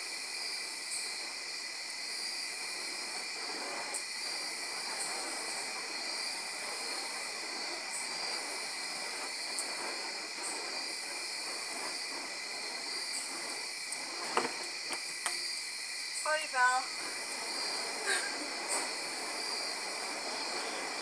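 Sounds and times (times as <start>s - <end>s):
night insects chirring: 0.0s - 21.0s
steady rushing hiss: 0.0s - 21.0s.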